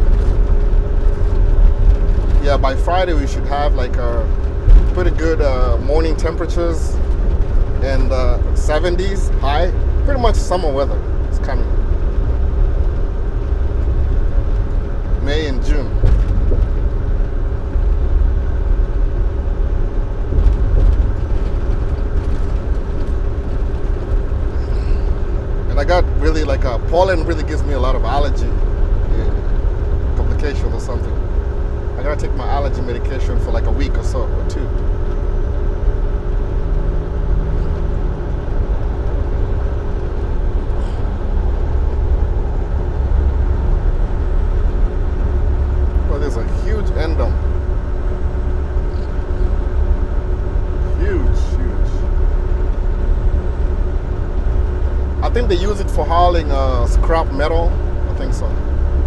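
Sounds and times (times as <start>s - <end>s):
diesel truck engine drone: 0.0s - 59.0s
road noise: 0.0s - 59.0s.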